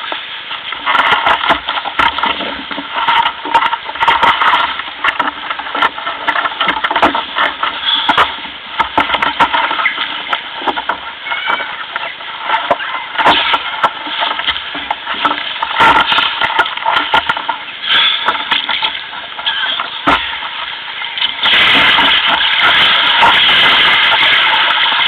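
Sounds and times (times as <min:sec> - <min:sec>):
water splashing against kayak hull: 0:00.0 - 0:25.0.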